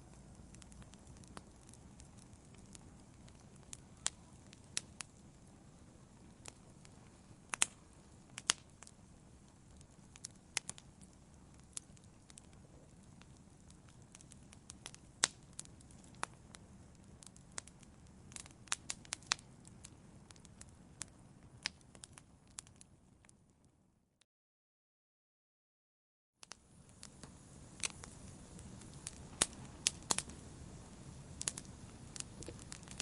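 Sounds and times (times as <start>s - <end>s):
wood fire crackling: 0.0s - 23.7s, 26.4s - 33.0s.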